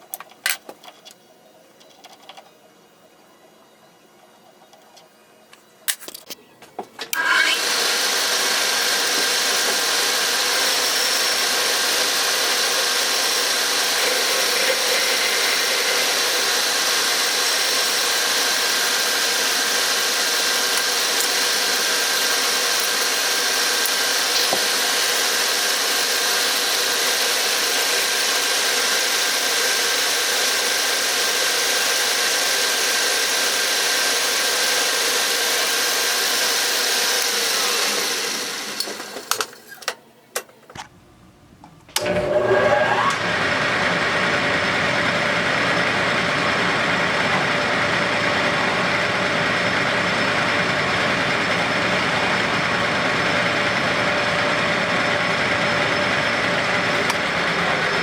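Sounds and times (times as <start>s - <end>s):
power tool electric motor running: 7.1s - 39.4s, 42.0s - 58.0s.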